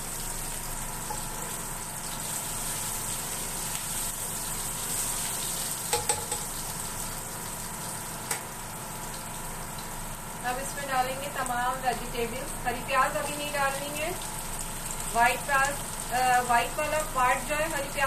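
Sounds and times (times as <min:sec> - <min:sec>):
garlic sizzling in oil: 0:00.0 - 0:18.0.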